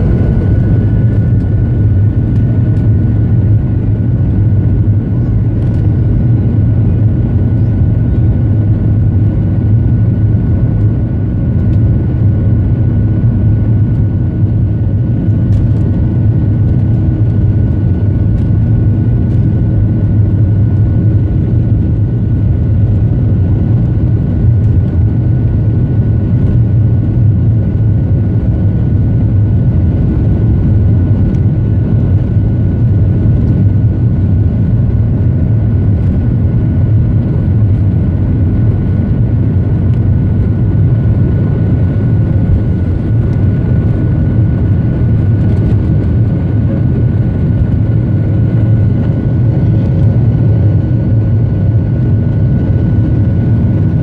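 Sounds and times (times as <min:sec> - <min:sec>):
jet engines droning: 0:00.0 - 0:54.0.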